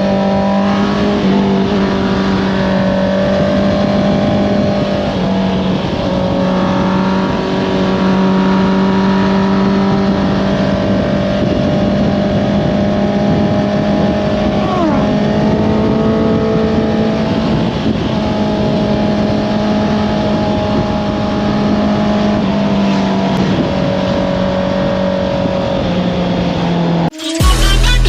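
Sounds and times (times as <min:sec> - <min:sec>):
motorcycle engine at high revs: 0:00.0 - 0:27.2.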